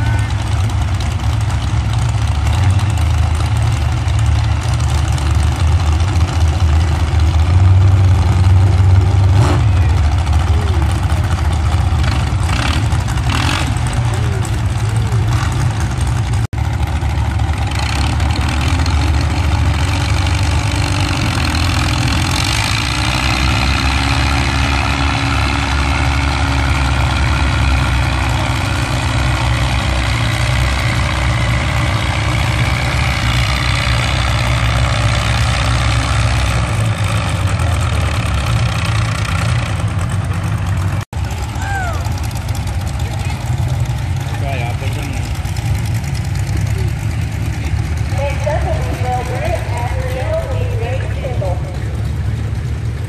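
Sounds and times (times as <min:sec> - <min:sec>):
tractor engine running under load: 0:00.0 - 0:53.0.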